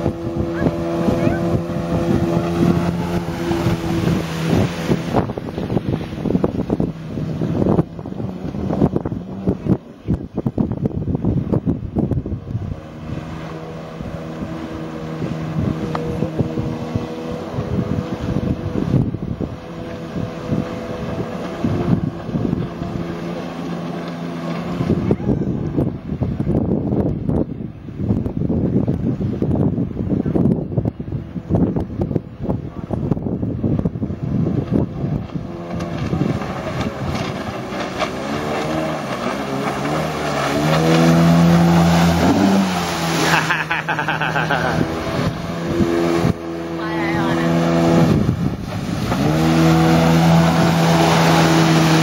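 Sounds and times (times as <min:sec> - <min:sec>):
wind buffeting microphone: 0:00.0 - 0:43.2, 0:44.4 - 0:52.0
jet ski engine running: 0:00.0 - 0:52.0.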